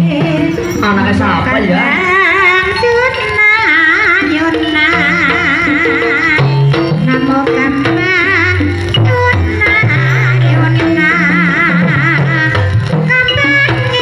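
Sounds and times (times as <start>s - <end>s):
held tuned notes melody: 0.0s - 14.0s
person singing with vibrato: 0.0s - 14.0s.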